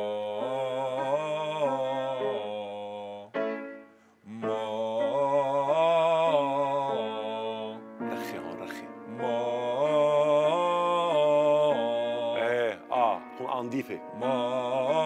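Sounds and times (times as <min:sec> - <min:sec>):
man singing vocal warm-up: 0:00.0 - 0:03.5, 0:04.2 - 0:15.0.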